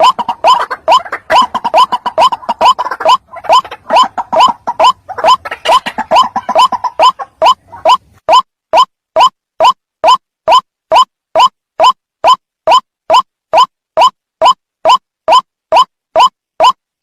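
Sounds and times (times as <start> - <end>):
waterhen croaking calls: 0.0 - 15.0.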